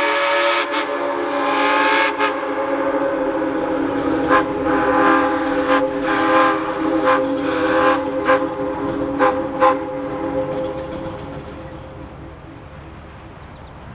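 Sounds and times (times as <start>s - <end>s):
steam whistle chord: 0.0s - 13.0s
steam exhaust chuffs: 2.0s - 13.9s.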